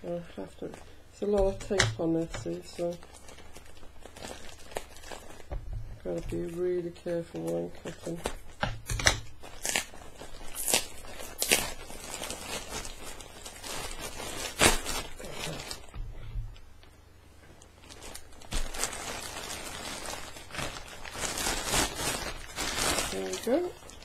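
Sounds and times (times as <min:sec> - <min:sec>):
plastic bag crinkling: 0:00.0 - 0:16.6, 0:17.5 - 0:24.0.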